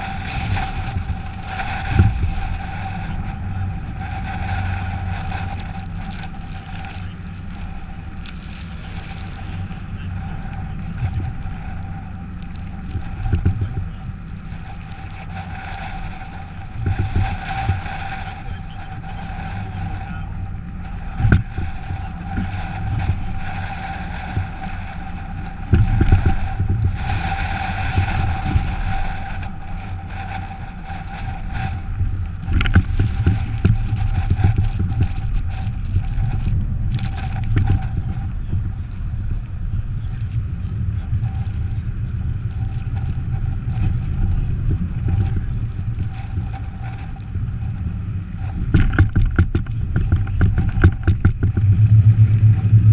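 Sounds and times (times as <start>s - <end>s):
car road rumble: 0.0s - 52.9s
thin steady whine: 0.0s - 52.9s.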